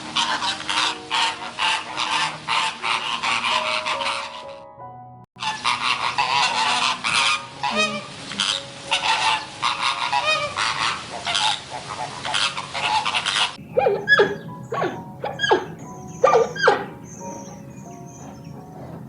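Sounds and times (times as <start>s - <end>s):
flock of birds honking: 0.0s - 4.6s, 5.4s - 19.0s.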